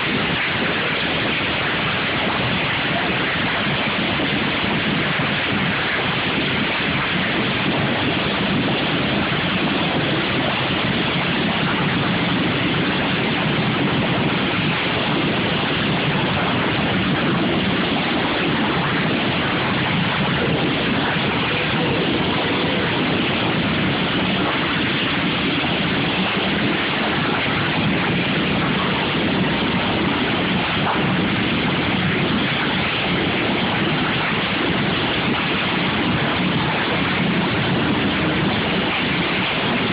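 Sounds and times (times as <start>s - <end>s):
lawn mower engines running: 0.0s - 39.9s.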